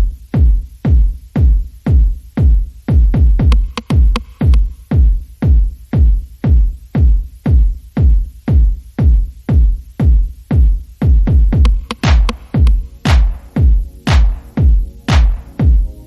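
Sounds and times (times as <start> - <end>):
electronic dance music: 0.0 - 16.0
heavy kick drum: 0.0 - 16.0.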